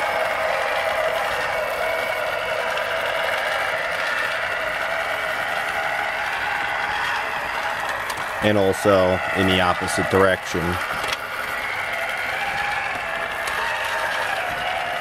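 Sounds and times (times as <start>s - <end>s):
toy tank electric motor running: 0.0s - 15.0s.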